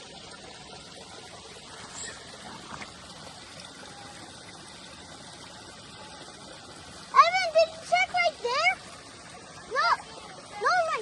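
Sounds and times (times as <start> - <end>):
creek water babbling: 0.0 - 11.0.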